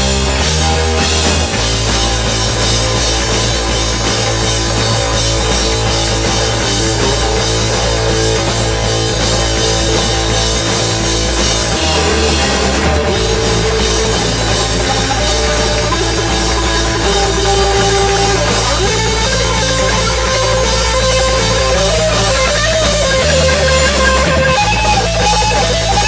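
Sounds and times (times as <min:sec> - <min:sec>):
drum kit beat: 0:00.0 - 0:26.0
low bass notes: 0:00.0 - 0:26.0
rock band playing live: 0:00.0 - 0:26.0.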